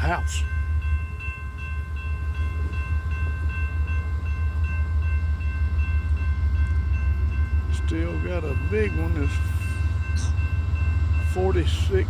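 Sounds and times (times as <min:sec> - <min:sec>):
bell ringing: 0:00.0 - 0:12.0
diesel locomotive rumbling: 0:00.0 - 0:12.0.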